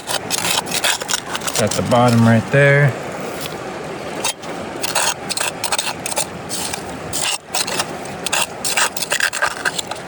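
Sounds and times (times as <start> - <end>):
gravel and rock scraping: 0.0 - 10.0
river rushing: 0.0 - 10.0.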